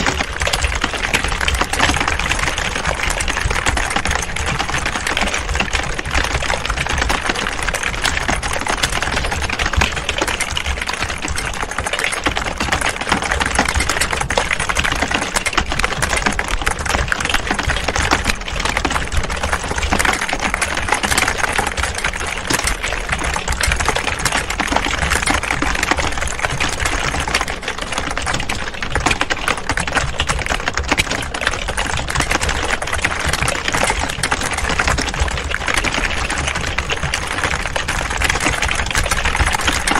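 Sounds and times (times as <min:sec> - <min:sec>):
keyboard typing clatter: 0:00.0 - 0:39.9.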